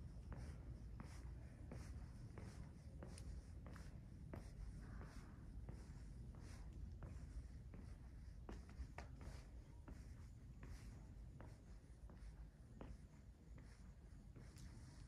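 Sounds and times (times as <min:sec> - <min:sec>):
faint footsteps: 0:00.0 - 0:15.0
low room hum: 0:00.0 - 0:15.0.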